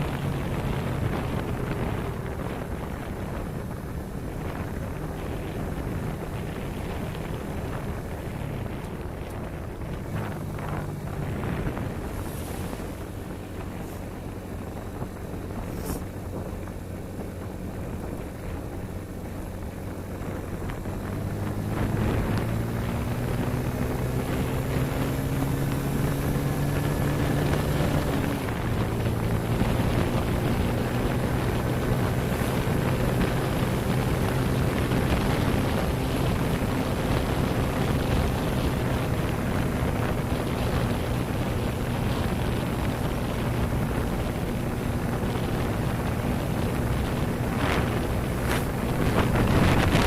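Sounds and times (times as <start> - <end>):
motorcycle engine running: 0.0 - 50.0
wind on microphone: 0.0 - 50.0.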